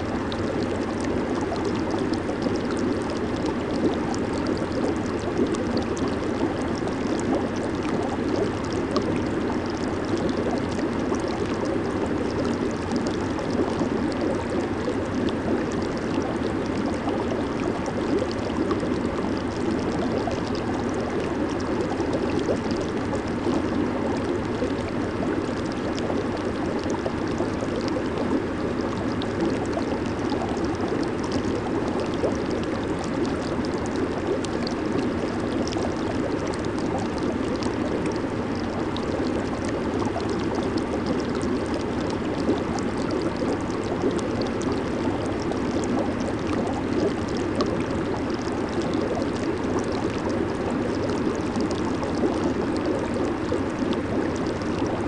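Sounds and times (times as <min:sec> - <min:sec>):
jacuzzi water bubbling: 0:00.0 - 0:55.0.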